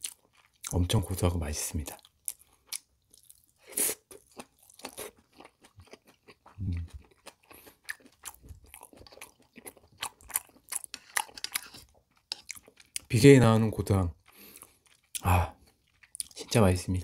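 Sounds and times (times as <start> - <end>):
person chewing food: 0.0 - 0.8, 1.9 - 13.1, 14.1 - 16.6.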